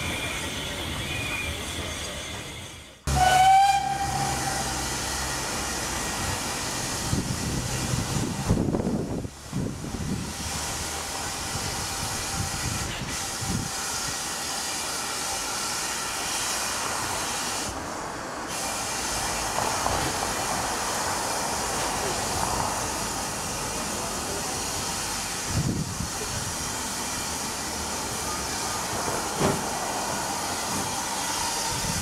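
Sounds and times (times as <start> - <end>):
steam locomotive hissing: 0.0 - 32.0.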